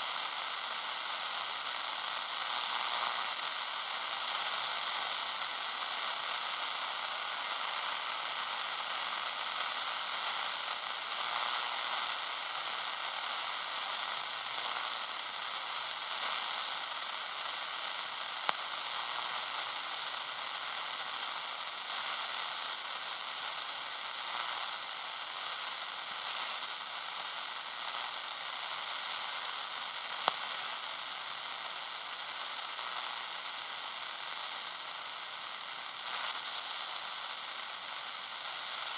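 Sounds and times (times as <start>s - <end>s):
radio static hiss: 0.0s - 38.9s.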